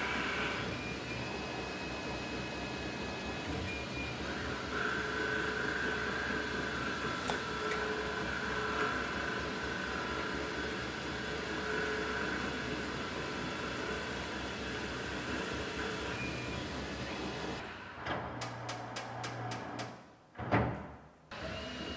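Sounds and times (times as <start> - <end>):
lathe machine whine: 0.0 - 17.9.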